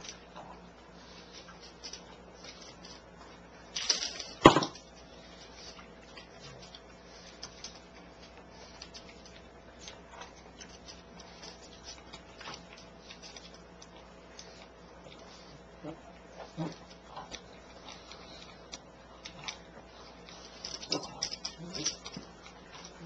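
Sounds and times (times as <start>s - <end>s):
dog eating dry kibble: 0.0s - 23.0s.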